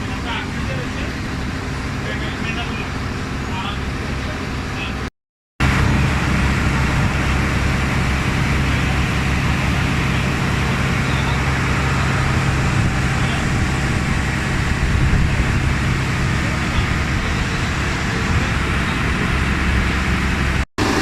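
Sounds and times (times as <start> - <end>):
ferry engine humming: 0.0 - 21.0.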